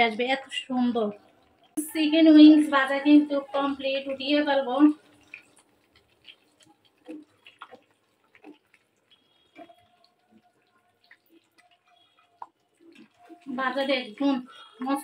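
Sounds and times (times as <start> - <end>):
oil dripping: 0.0 - 15.0.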